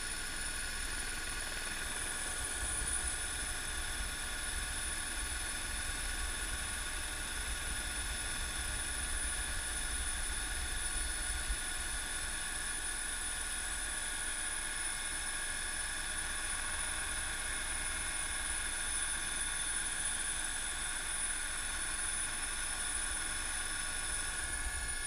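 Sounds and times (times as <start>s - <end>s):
helicopter rotor and turbine drone: 0.0s - 25.0s.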